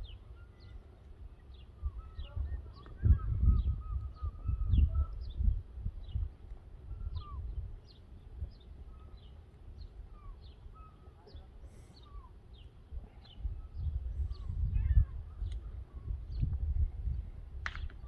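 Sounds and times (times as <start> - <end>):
lower bird calls: 0.0 - 18.0.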